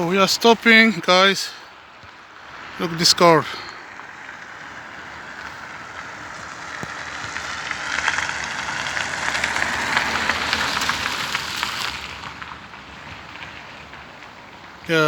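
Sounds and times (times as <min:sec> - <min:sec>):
car tyre noise passing: 0:00.0 - 0:15.0.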